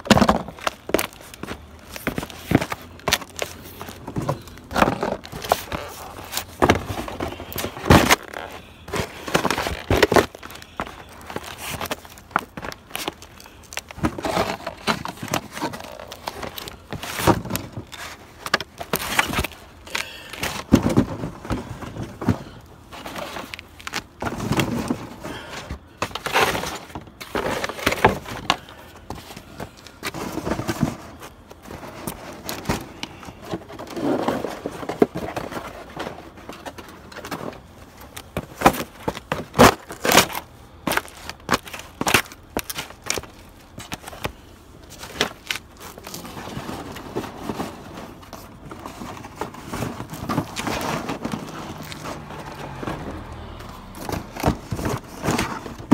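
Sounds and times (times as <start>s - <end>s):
cardboard boxes being crushed: 0.0s - 55.9s.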